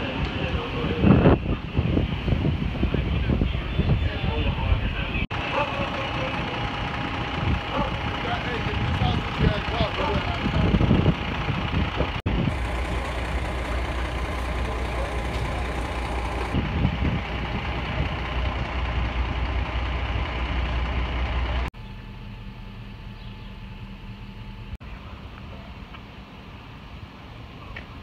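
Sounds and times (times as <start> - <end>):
diesel engine droning: 0.0 - 27.6
quiet engine hum: 4.9 - 28.0.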